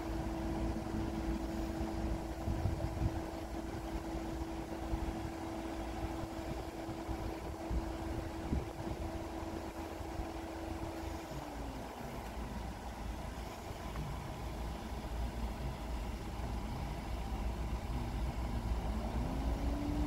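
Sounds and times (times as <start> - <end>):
van engine idling: 0.0 - 20.0.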